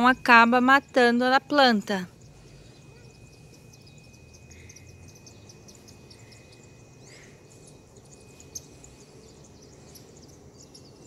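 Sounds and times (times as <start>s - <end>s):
high-pitched chirps: 0.0s - 11.0s
thin steady high whine: 0.0s - 11.0s.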